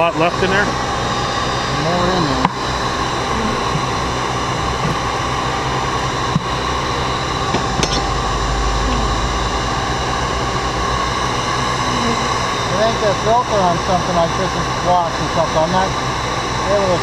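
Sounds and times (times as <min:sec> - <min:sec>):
vacuum motor hum: 0:00.0 - 0:17.0.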